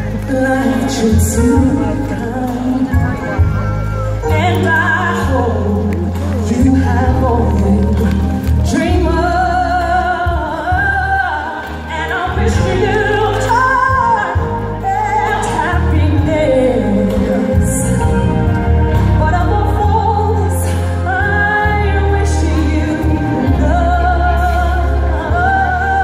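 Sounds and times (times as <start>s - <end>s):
band accompaniment: 0.0s - 26.0s
woman singing with vibrato: 0.0s - 26.0s.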